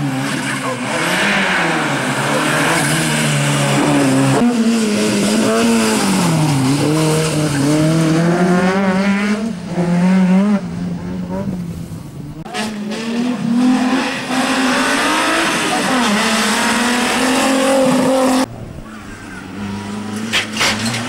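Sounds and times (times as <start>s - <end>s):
rally car engines revving: 0.0s - 21.0s.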